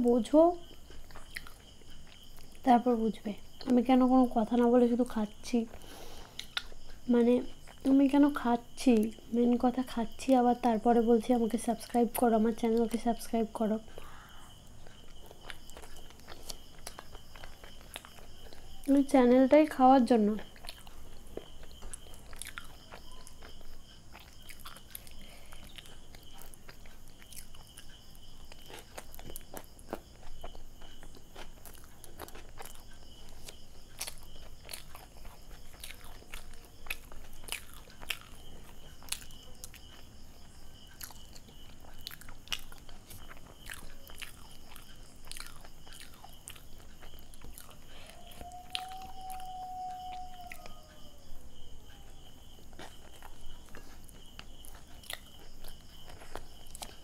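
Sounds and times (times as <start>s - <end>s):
close chewing: 0.3s - 2.7s, 4.4s - 9.8s, 11.3s - 57.0s.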